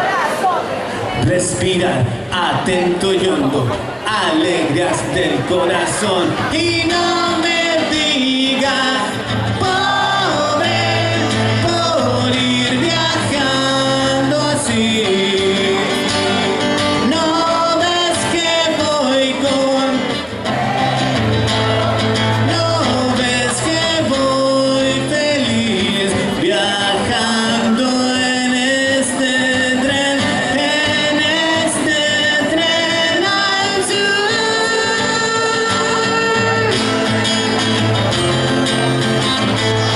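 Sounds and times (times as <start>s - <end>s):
live rock band playing: 6.4s - 28.0s, 28.6s - 39.9s.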